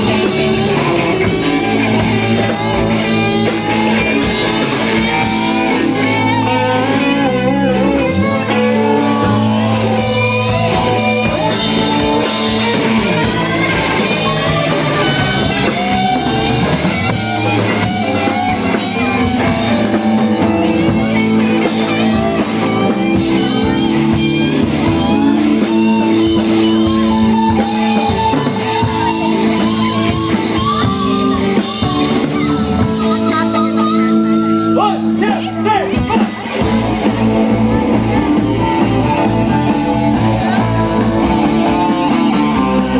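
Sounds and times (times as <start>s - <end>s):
bass guitar: 0.0s - 42.9s
drum kit: 0.0s - 42.9s
electric guitar lead: 0.0s - 42.9s.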